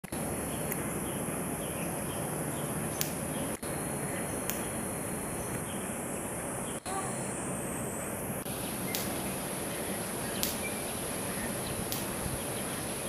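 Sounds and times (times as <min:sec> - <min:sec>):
insects calling: 0:00.1 - 0:13.0.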